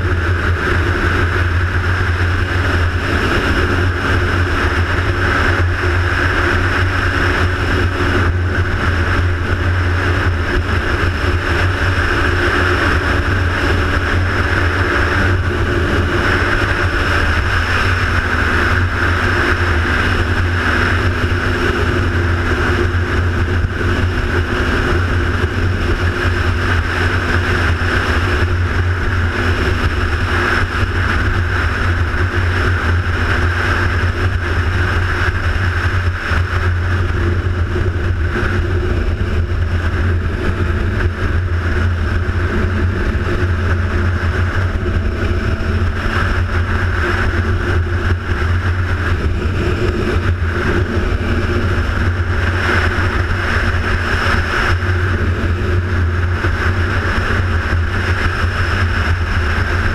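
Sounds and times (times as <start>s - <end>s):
vehicle engine hum and road noise: 0.0s - 59.9s.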